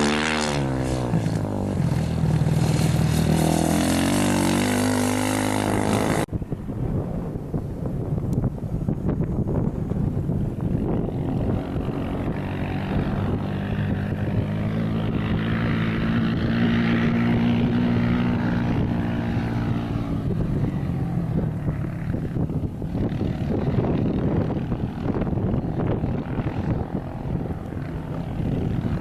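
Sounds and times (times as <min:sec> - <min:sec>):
engine passing by: 0:00.0 - 0:06.7, 0:09.6 - 0:29.0
rough wind-like rumble: 0:00.0 - 0:29.0.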